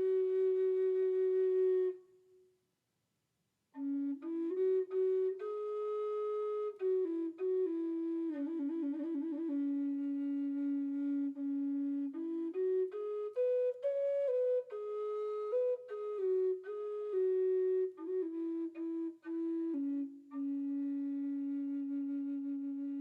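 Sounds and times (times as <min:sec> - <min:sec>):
slow flute-like melody: 0:00.0 - 0:02.5, 0:03.8 - 0:23.0.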